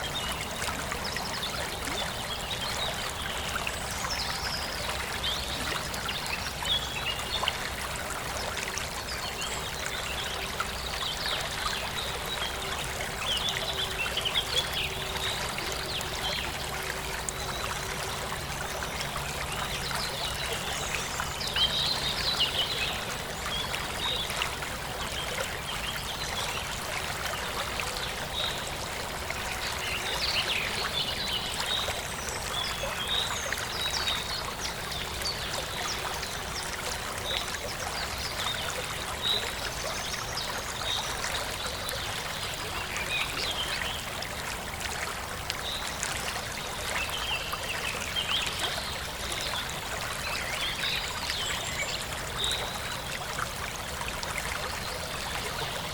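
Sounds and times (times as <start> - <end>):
stream flowing and trickling: 0.0 - 55.9.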